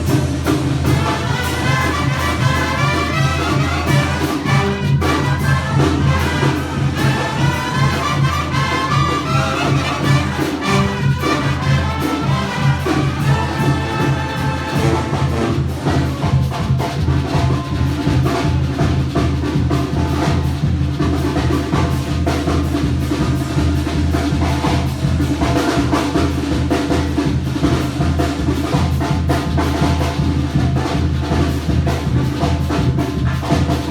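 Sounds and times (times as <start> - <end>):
trumpets and trombones: 0.0 - 23.6, 28.6 - 33.9
drums and percussion: 0.0 - 33.9.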